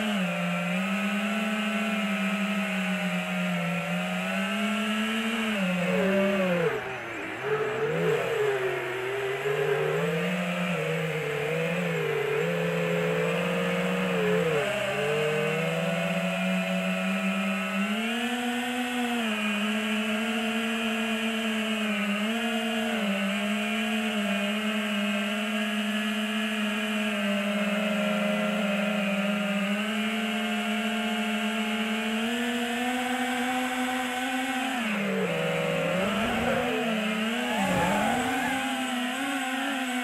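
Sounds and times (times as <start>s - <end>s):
quadcopter motors whining: 0.0s - 40.0s.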